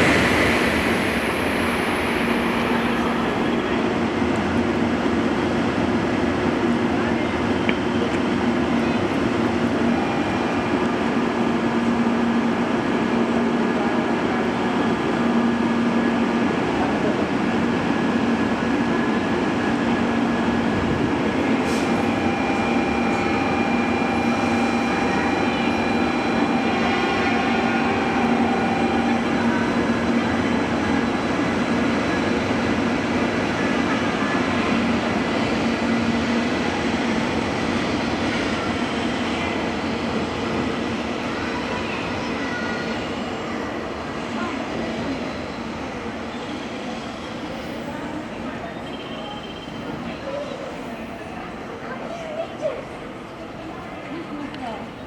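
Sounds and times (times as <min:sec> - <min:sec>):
high-speed train hum: 0:00.0 - 0:55.0.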